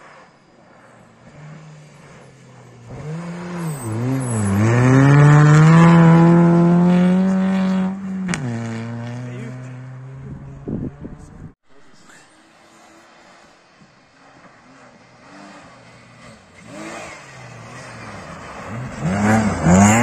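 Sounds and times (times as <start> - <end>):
rally car passing at full throttle: 0.0 - 20.0.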